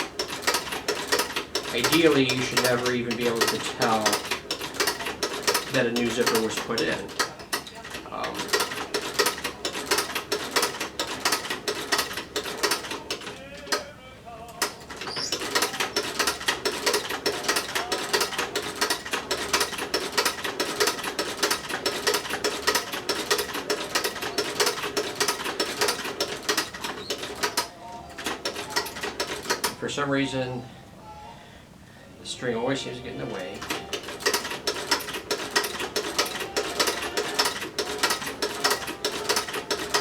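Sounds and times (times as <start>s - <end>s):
sewing machine clatter: 0.0s - 13.9s, 14.6s - 29.8s, 33.3s - 40.0s.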